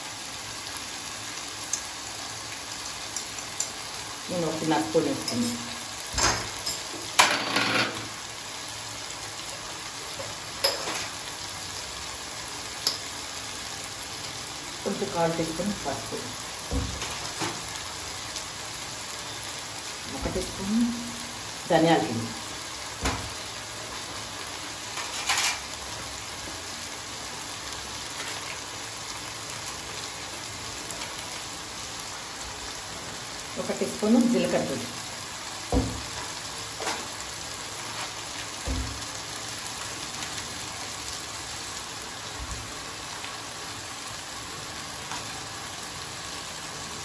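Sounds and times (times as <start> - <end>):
chicken sizzling in oil: 0.0 - 47.0
oil crackle: 0.0 - 47.0.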